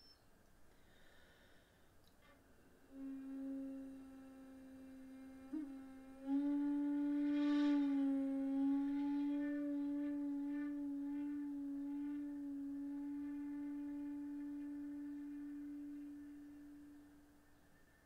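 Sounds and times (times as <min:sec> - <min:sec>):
shakuhachi long low note: 0:02.1 - 0:18.0.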